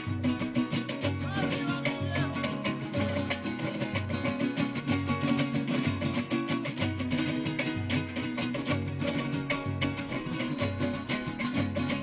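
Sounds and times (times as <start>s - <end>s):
strummed string ensemble: 0.0s - 12.0s.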